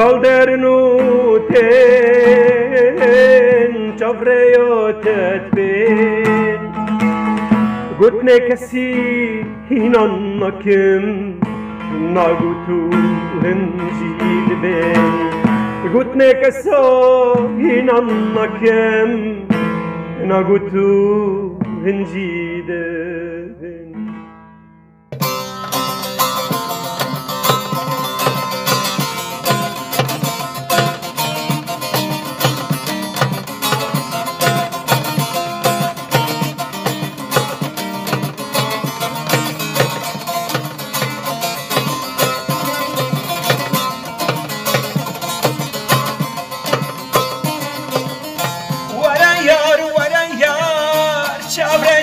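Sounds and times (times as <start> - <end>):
person singing: 0.0 - 6.9, 7.9 - 19.6, 25.3 - 52.0
plucked string music: 0.0 - 52.0.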